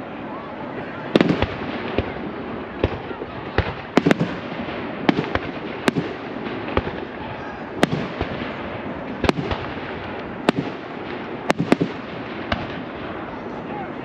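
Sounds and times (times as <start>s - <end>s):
fireworks bangs: 0.8s - 13.6s.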